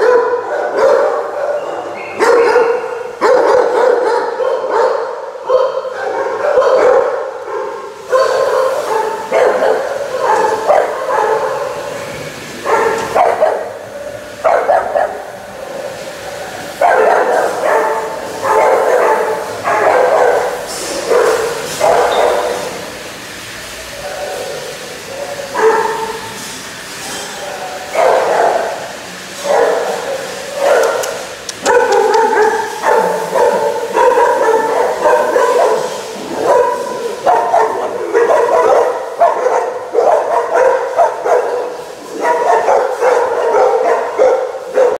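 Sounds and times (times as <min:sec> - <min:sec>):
dogs barking and yipping: 0:00.0 - 0:23.1, 0:23.9 - 0:45.0.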